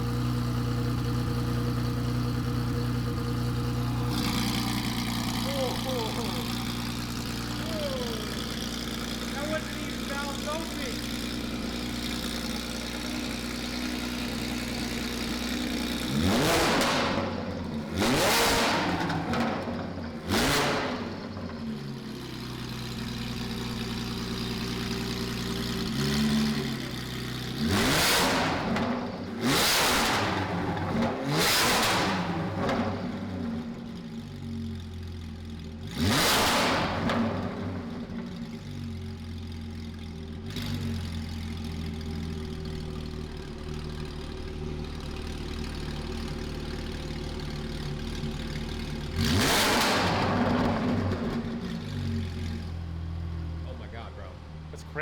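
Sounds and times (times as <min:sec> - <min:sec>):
sports car engine revving: 0:00.0 - 0:55.0.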